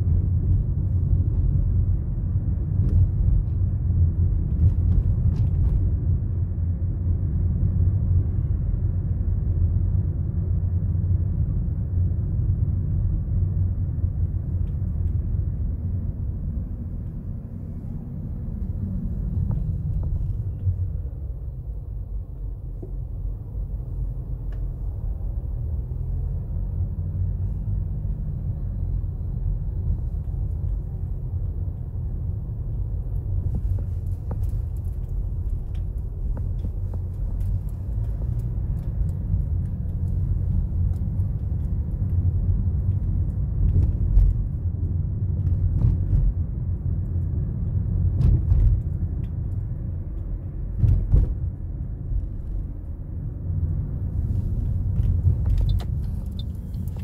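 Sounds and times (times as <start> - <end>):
car engine rumble: 0.0 - 57.0.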